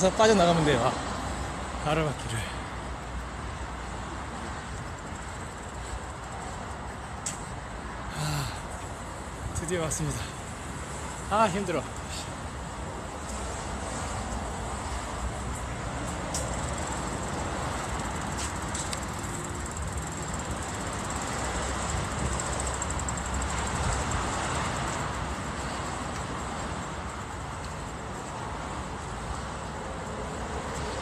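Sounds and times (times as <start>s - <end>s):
passing traffic rumble: 0.0s - 31.0s.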